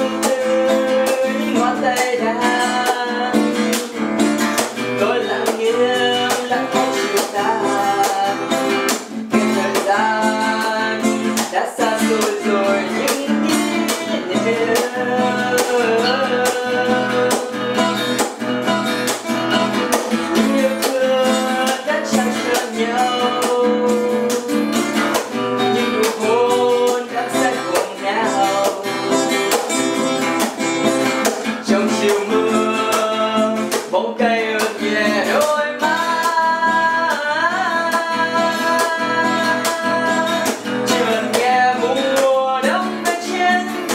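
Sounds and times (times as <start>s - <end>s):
acoustic guitar melody: 0.0s - 43.9s.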